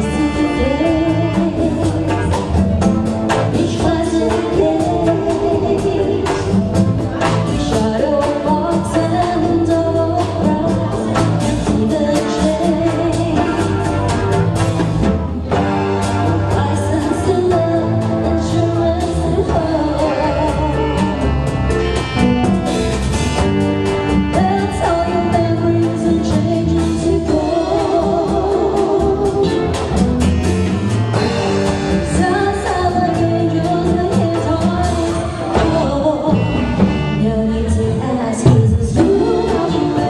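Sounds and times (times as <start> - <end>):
person singing with vibrato: 0.0 - 2.5, 3.4 - 14.1, 16.4 - 40.0
steady drum beat: 0.0 - 37.8, 38.4 - 40.0
bass: 0.0 - 40.0
dance band playing pop song: 0.0 - 40.0.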